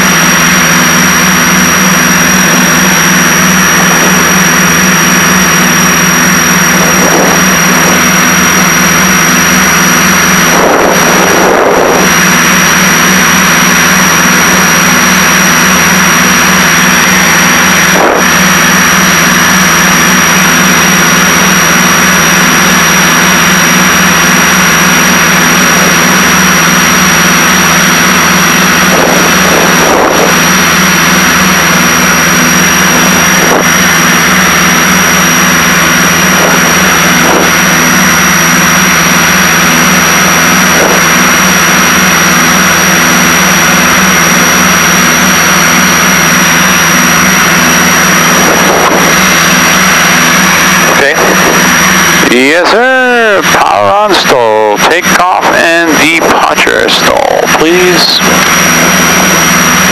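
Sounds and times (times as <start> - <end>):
aircraft engines droning: 0.0 - 59.9
thin high whine: 0.0 - 59.9.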